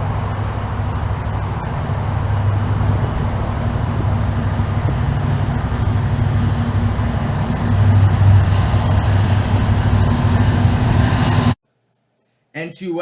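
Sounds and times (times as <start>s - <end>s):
train wheels rumbling on rails: 0.0s - 11.6s.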